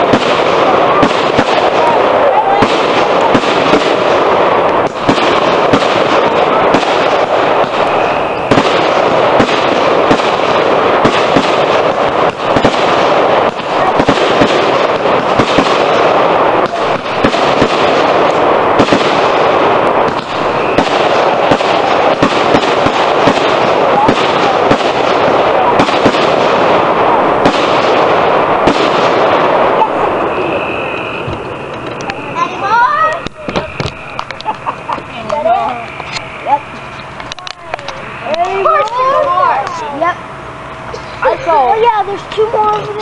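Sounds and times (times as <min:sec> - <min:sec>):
fireworks crackles and pops: 0:00.0 - 0:43.0.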